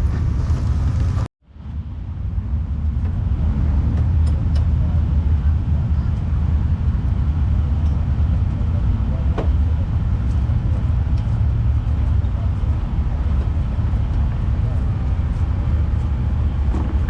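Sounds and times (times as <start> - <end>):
race car engines rumbling: 0.0 - 17.0.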